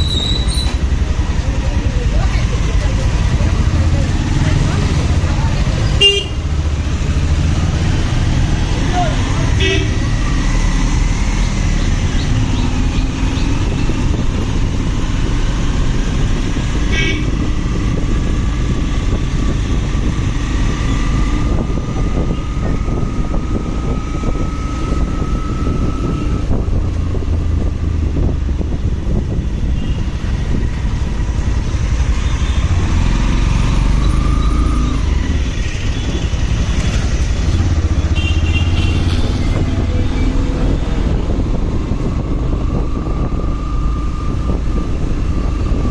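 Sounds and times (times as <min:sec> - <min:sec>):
wind rumble on microphone: 0:00.0 - 0:45.9.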